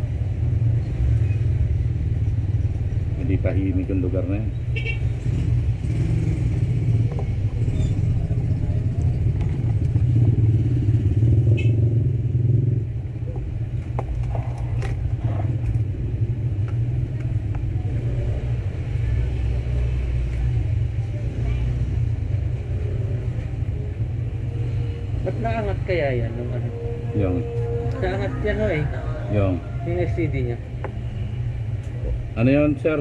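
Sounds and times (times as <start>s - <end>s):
low engine rumble: 0.0s - 33.0s.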